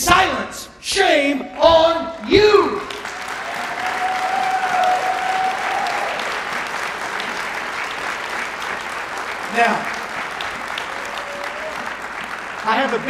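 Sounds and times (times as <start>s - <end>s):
audience clapping: 1.8s - 13.0s.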